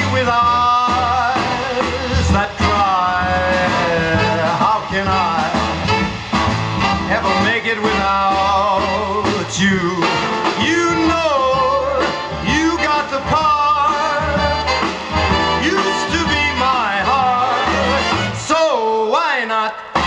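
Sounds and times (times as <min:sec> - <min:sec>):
swing music over loudspeakers: 0:00.0 - 0:20.0.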